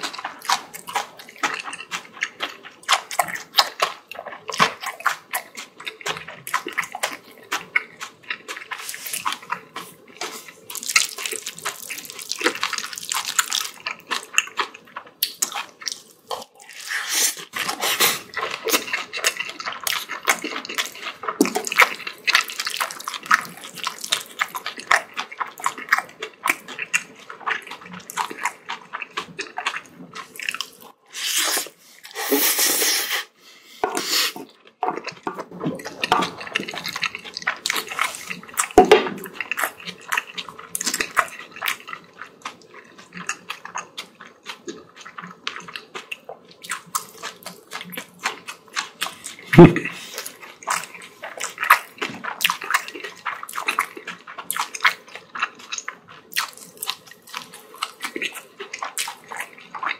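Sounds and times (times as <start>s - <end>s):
wet chewing and lip-smacking: 0.0s - 32.7s, 33.8s - 59.9s.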